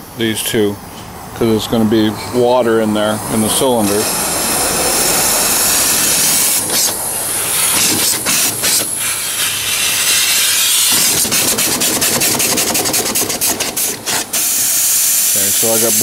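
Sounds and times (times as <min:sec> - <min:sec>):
steam engine hissing and puffing: 0:03.0 - 0:16.0.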